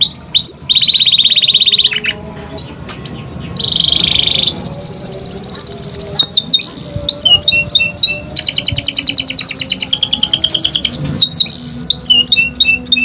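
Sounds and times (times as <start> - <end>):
canary singing: 0.0 - 13.0.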